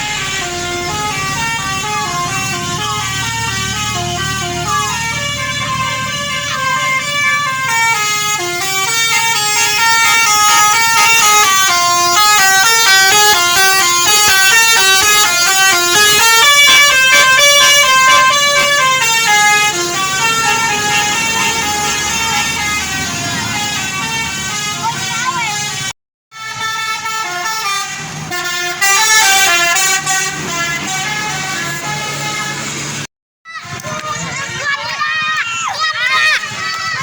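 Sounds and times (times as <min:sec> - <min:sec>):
bus melody air horns: 0:00.0 - 0:34.8.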